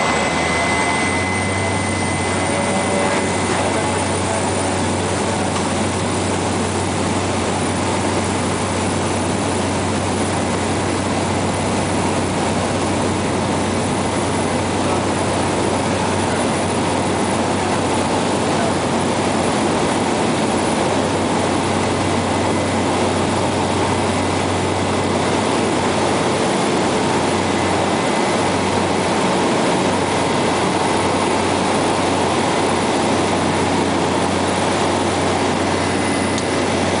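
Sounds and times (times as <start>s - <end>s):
low hum: 0.0s - 37.0s
turboprop engine drone: 0.0s - 37.0s.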